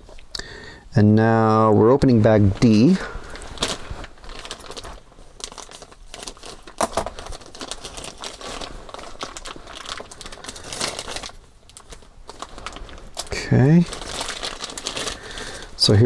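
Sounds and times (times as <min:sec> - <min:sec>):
plastic bag crinkling: 0:02.2 - 0:16.0.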